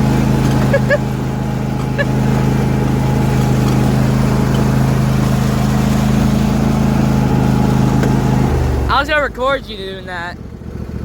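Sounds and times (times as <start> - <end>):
lawn tractor engine running: 0.0 - 11.0.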